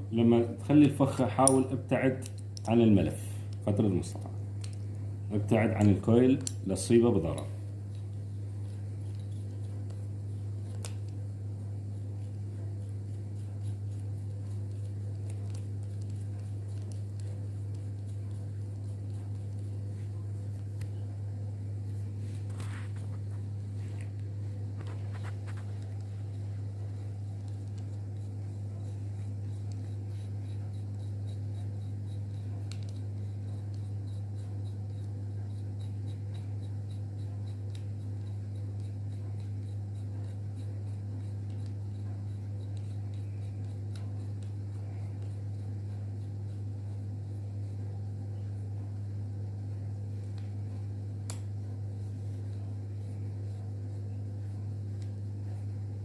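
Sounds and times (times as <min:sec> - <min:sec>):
low hum: 0:02.2 - 0:56.0.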